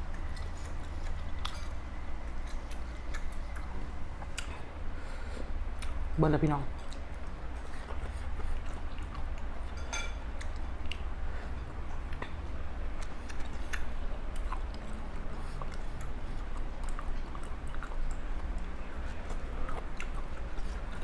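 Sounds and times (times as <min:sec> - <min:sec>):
person chewing food: 0:00.0 - 0:06.1, 0:06.7 - 0:21.0.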